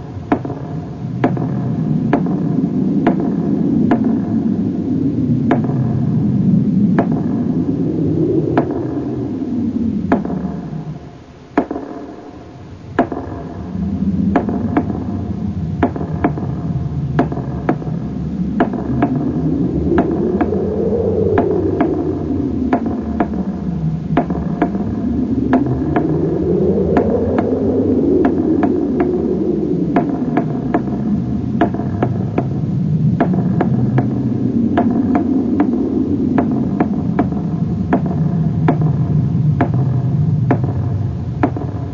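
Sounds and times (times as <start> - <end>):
hissing synthesizer pad: 0.0 - 41.9
sharp clicks and knocks: 0.2 - 4.4, 6.9 - 7.8, 10.1 - 10.9, 12.9 - 13.6, 14.2 - 41.9.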